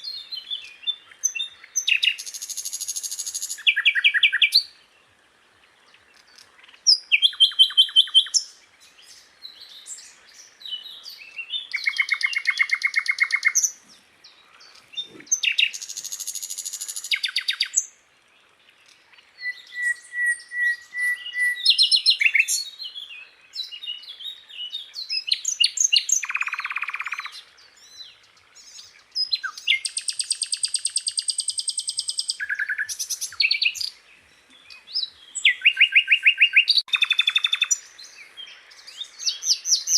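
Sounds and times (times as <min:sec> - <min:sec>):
bird singing trills and whistles: 0:00.0 - 0:04.8, 0:06.3 - 0:18.0, 0:18.8 - 0:39.9.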